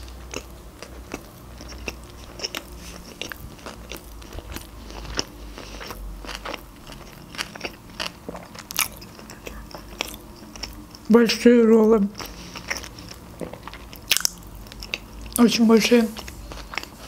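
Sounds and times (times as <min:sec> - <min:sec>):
chewing mouth clicks and smacks: 0:00.3 - 0:11.1, 0:12.2 - 0:15.4.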